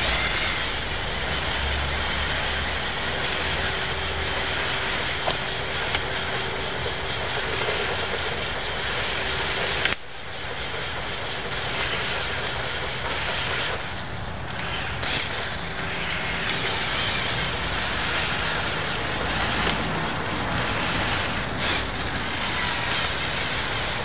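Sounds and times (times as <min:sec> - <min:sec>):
toy truck electric motors and gears: 0:00.0 - 0:24.0.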